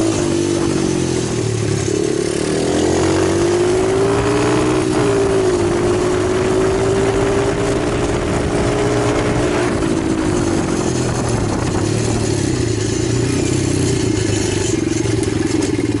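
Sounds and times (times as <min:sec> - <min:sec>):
pit bike engine running: 0:00.0 - 0:16.0.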